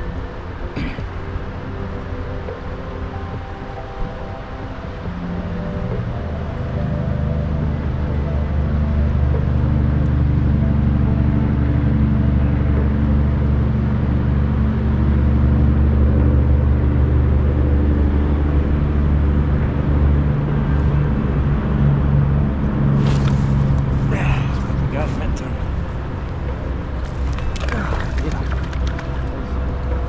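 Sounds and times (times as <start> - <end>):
low engine drone: 0.0 - 30.0.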